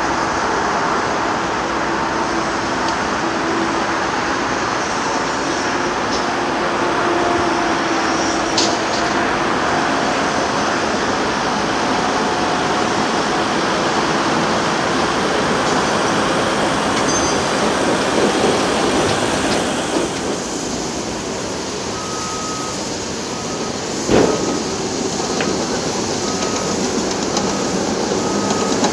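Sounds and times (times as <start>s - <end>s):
earthmoving machinery diesel engines: 0.0s - 28.9s
motorway traffic: 0.0s - 28.9s.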